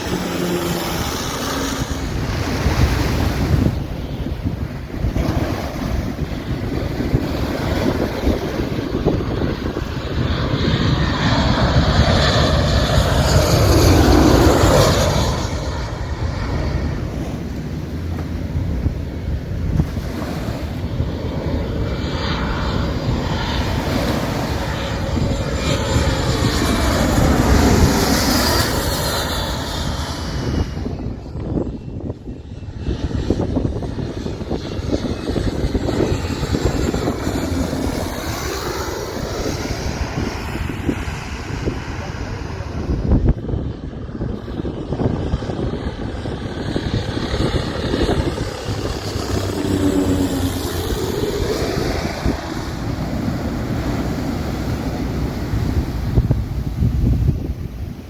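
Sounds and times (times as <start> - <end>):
airplane passing overhead: 0.0 - 58.0.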